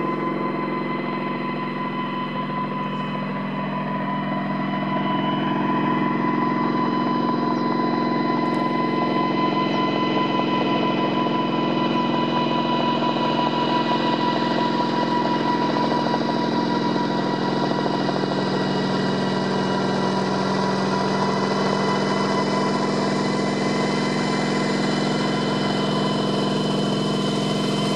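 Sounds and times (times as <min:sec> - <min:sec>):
helicopter engine and rotor drone: 0:00.0 - 0:27.9.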